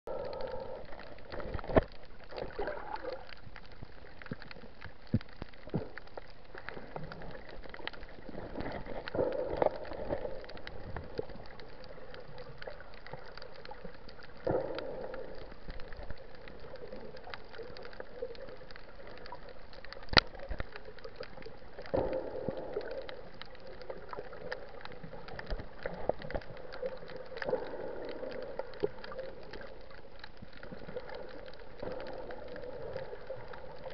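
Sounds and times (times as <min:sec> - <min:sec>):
muffled underwater water wash: 0:00.1 - 0:33.9.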